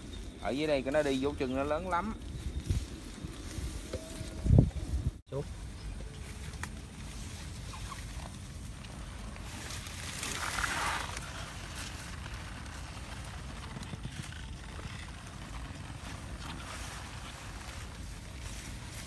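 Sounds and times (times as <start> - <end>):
rustling leaves and stalks: 0.0 - 19.0.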